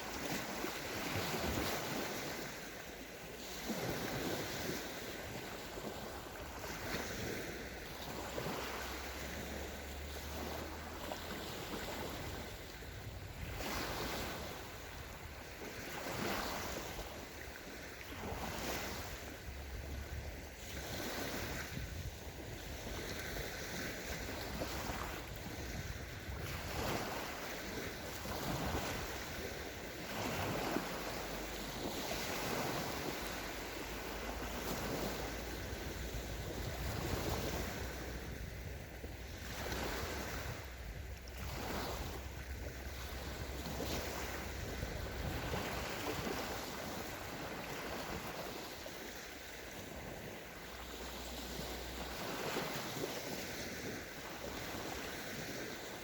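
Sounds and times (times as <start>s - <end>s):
small waves breaking on sand: 0.0s - 56.0s
wind rumbling on microphone: 0.0s - 56.0s.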